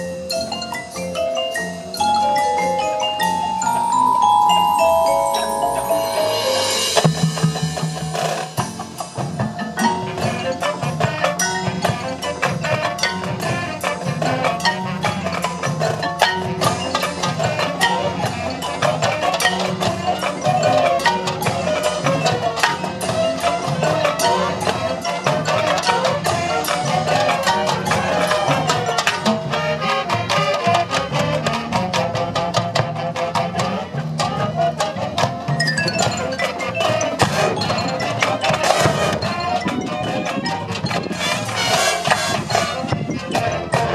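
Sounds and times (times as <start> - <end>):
sharp percussion strikes: 0.0 - 29.6, 34.8 - 43.9
marching band playing: 1.5 - 43.9.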